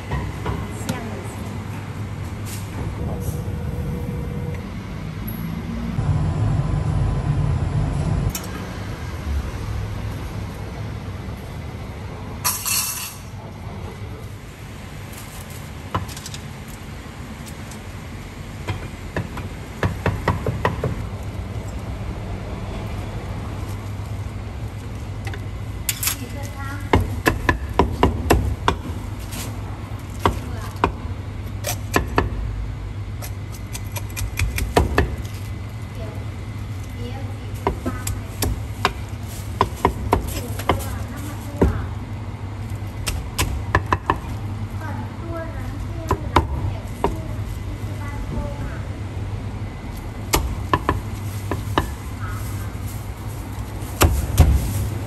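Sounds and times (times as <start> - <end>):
road traffic rumble: 0.0 - 55.0
steady low hum: 0.0 - 55.0.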